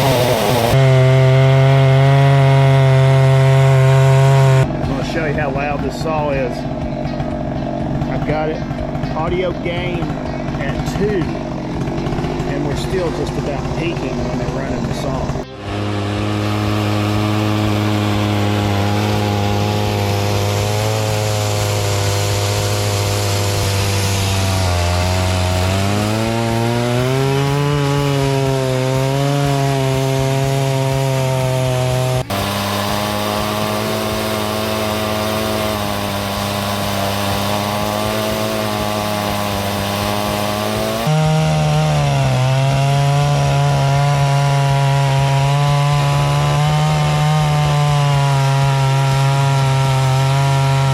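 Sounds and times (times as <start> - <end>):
chainsaw cutting log: 0.0 - 50.9.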